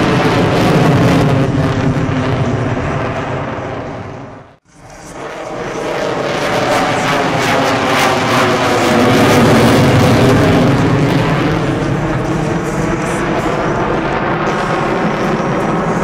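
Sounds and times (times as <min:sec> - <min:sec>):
jet flying by: 0:00.0 - 0:16.0.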